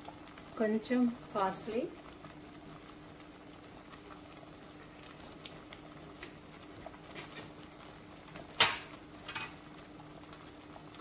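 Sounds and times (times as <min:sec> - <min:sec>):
thick sauce simmering: 0:00.0 - 0:11.0.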